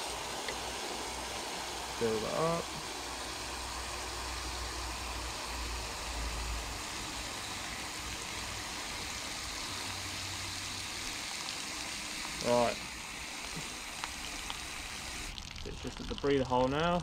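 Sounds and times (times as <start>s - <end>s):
hose spraying water into box: 0.0s - 17.0s.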